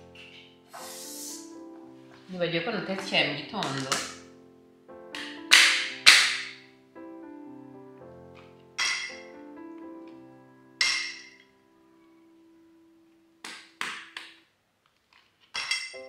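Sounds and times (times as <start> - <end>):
soft instrumental music: 0.0 - 13.4.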